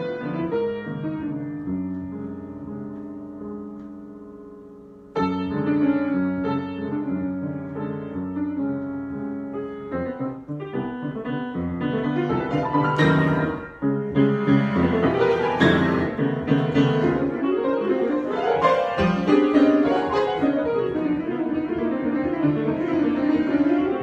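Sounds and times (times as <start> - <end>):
solo piano playing: 0.0 - 24.0.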